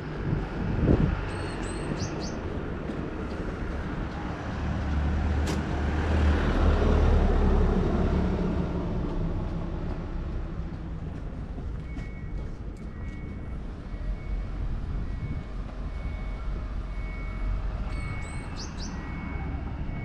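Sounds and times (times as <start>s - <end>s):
vehicle passing with low rumble: 0.0s - 20.0s.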